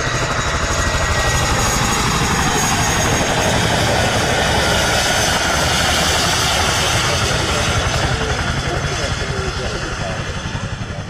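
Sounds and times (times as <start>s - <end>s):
aircraft low throbbing with hiss: 0.0s - 11.0s.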